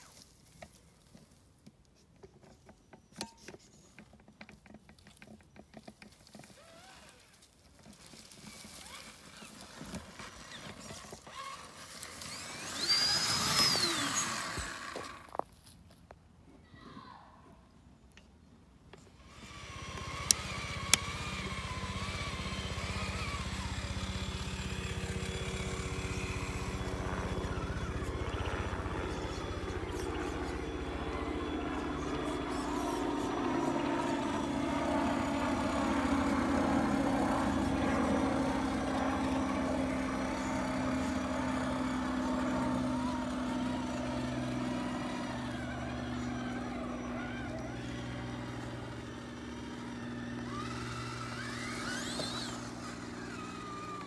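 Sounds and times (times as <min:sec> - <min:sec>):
rc truck motor whine: 0:06.3 - 0:15.4, 0:18.9 - 0:54.0.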